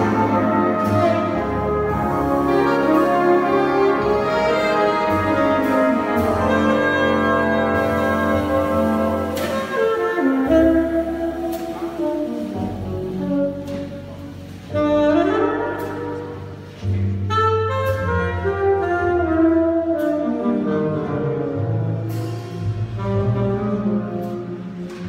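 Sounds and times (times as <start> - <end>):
saxophone: 0.0 - 22.1, 22.8 - 25.0
jazz big band playing: 0.0 - 25.0.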